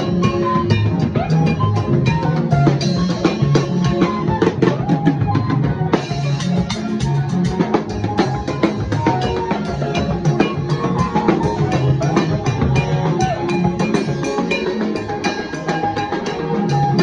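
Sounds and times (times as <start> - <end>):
bass line: 0.0 - 17.0
drum kit busy beat: 0.0 - 17.0
pitched instruments: 0.0 - 17.0.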